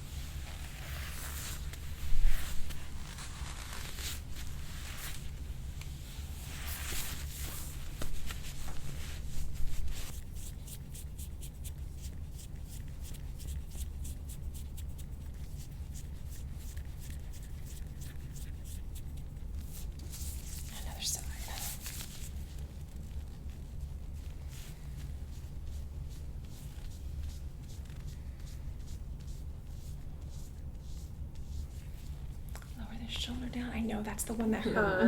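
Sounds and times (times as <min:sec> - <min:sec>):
rustling of skin and clothing: 0:00.0 - 0:34.5.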